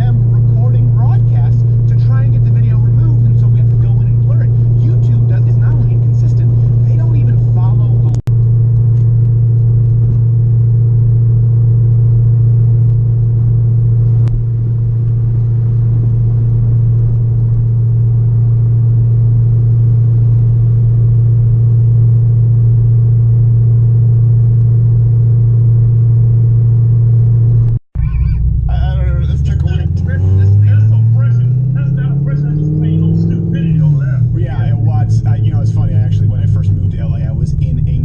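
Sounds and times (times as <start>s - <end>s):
car exhaust droning: 0.0s - 38.0s.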